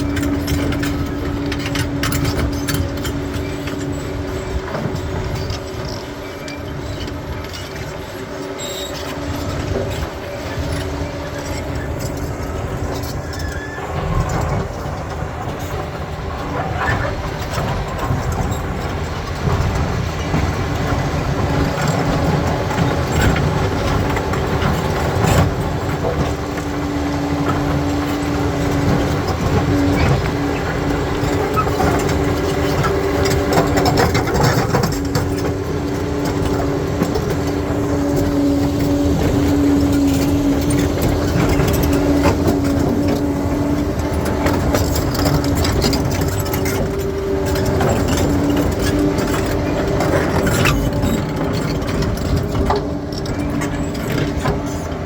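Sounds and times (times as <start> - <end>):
bulldozer diesel engine: 0.0 - 55.0
steel tracks clattering: 0.0 - 55.0.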